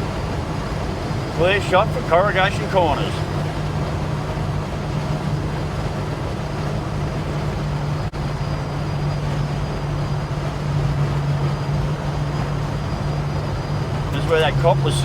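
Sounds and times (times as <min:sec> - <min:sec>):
car engine drone: 0:00.0 - 0:15.0
road noise inside car: 0:00.0 - 0:15.0.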